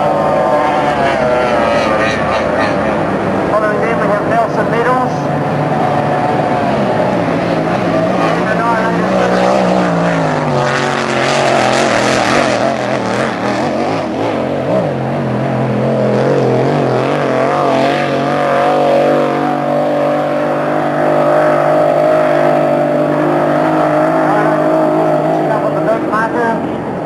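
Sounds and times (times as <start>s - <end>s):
racing powerboat engines: 0.0s - 27.0s.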